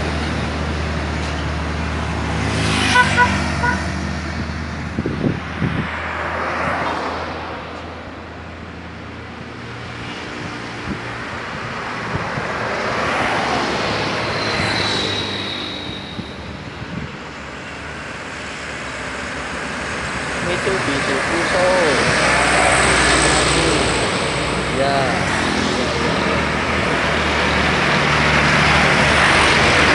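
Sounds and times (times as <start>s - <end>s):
highway traffic: 0.0s - 29.9s
trucks passing: 0.0s - 29.9s.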